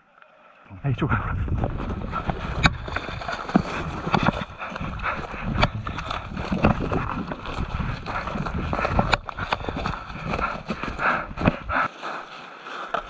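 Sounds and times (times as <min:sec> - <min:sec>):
footsteps running through dry leaves: 0:02.1 - 0:12.9.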